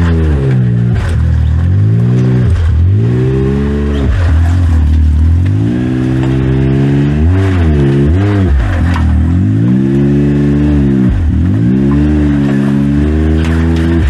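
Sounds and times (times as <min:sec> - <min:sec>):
utv engine revving: 0:00.0 - 0:14.0.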